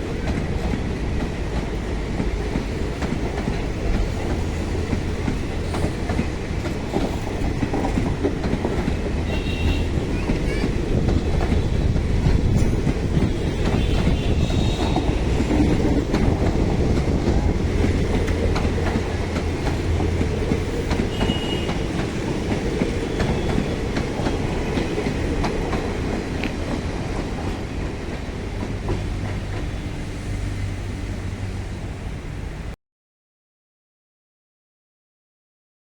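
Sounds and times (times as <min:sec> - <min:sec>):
train wheels clicking on rail joints: 0:00.0 - 0:31.6.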